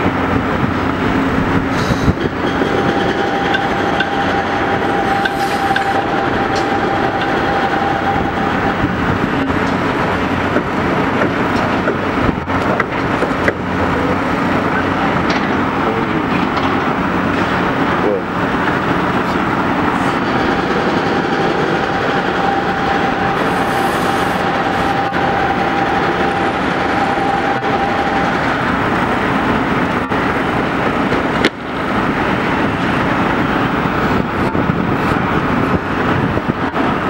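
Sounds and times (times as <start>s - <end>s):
thin steady whine: 0.0s - 10.5s, 13.6s - 37.0s
excavator diesel engine: 0.0s - 37.0s.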